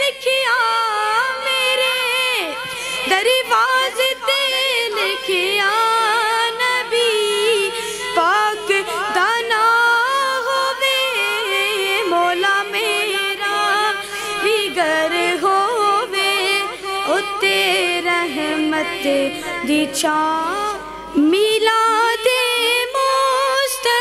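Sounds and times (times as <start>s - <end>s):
boy singing into a microphone: 0.0s - 24.0s.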